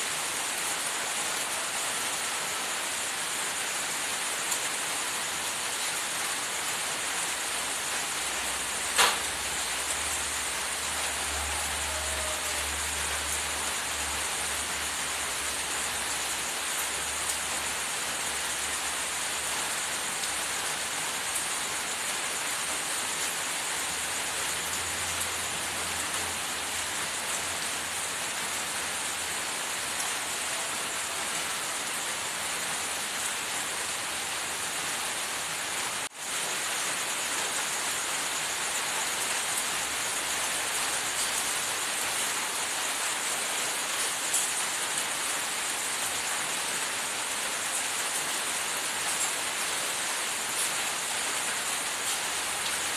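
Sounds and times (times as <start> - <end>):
steady hiss: 0.0 - 52.9.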